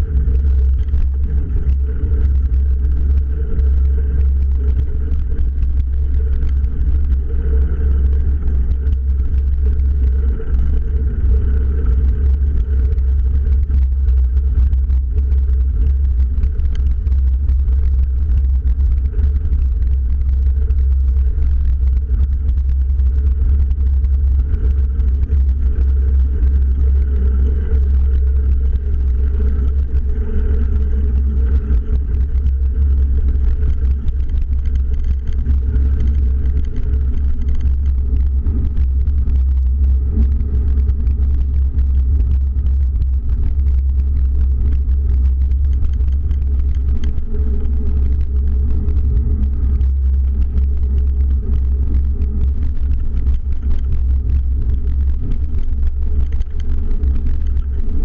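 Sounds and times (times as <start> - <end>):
bicycle tyres rolling on gravel: 0.1 - 58.0.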